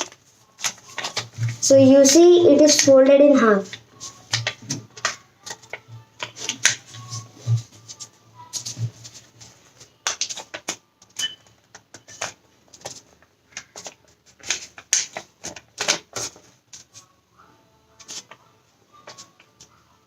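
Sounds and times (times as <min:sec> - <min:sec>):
paper crackling and rustling: 0:00.0 - 0:02.9, 0:03.7 - 0:10.8, 0:11.9 - 0:17.1, 0:18.0 - 0:19.8.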